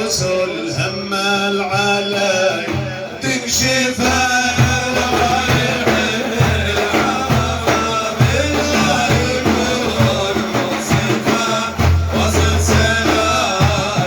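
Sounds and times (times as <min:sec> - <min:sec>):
man singing praise song: 0:00.0 - 0:14.0
drum beat: 0:02.7 - 0:14.0.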